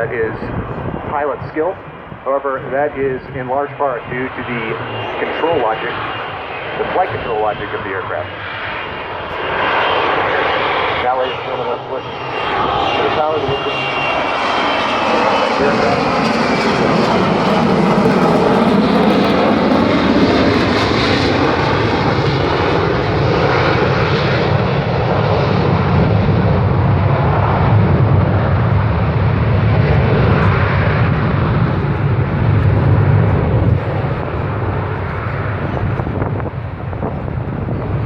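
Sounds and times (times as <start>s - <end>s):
jet engine roaring: 0.0s - 38.0s.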